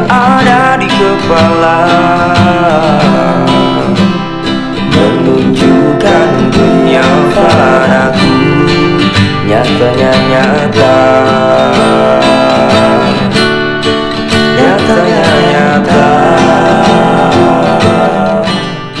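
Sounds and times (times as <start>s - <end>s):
background guitar music: 0.0s - 19.0s.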